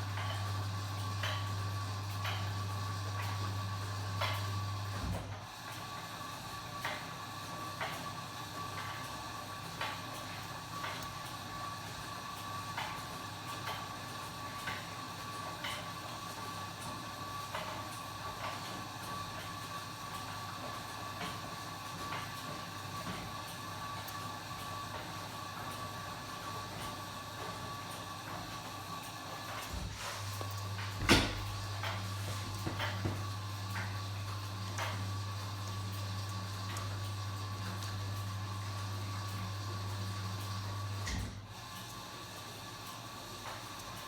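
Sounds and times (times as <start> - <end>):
washing machine motor whine: 0.0 - 44.0.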